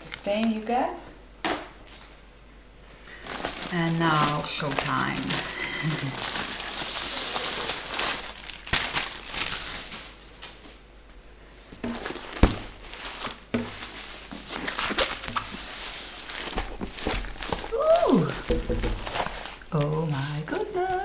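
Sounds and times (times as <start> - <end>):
paper and plastic rustling: 2.9 - 10.8, 11.5 - 21.0
plastic sleeve crinkling: 2.9 - 10.8, 11.7 - 21.0.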